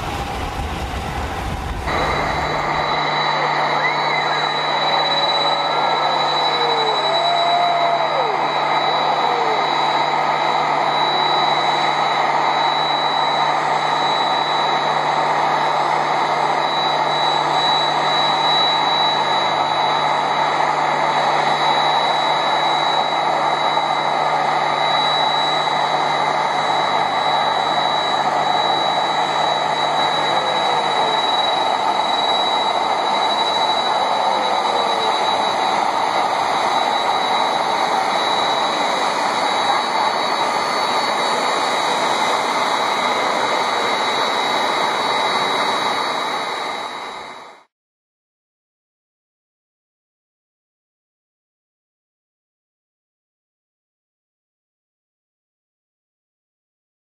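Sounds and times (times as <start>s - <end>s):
jet engines running: 0.0s - 47.7s.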